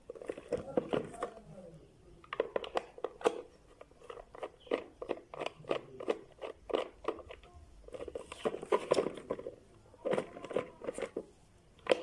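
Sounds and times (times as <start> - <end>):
small parts and tools clicking: 2.2 - 12.0.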